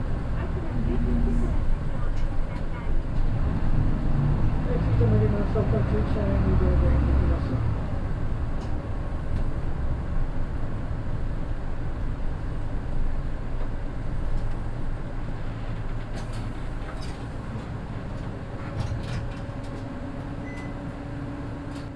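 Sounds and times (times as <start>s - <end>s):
diesel bus engine rumbling: 0.0s - 21.9s.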